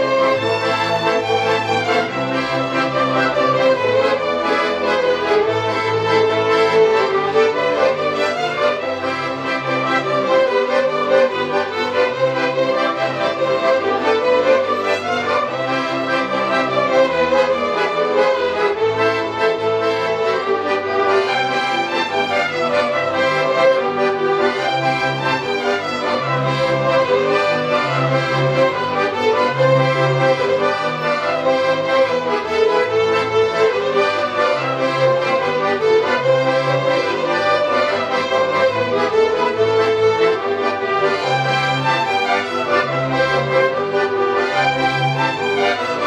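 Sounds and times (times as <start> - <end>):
accordion: 0.0 - 46.0
double bass line: 0.0 - 46.0
violins playing melody: 0.0 - 46.0.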